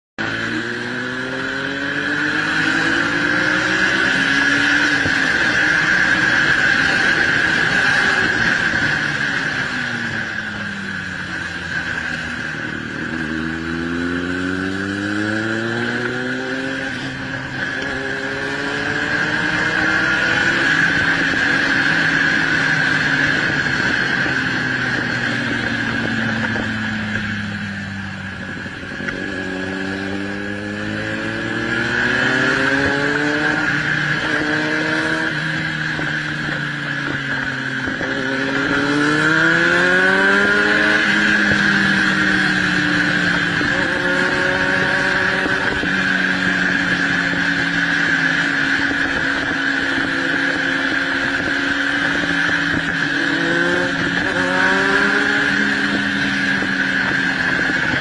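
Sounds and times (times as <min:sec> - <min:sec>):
engine accelerating through gears: 0:00.2 - 0:58.0.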